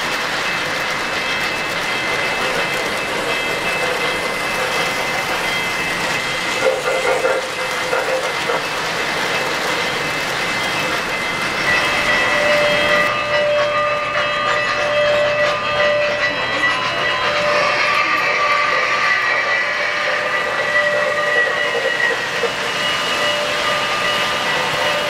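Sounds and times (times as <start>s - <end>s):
model train wheels on track: 0.0s - 25.0s.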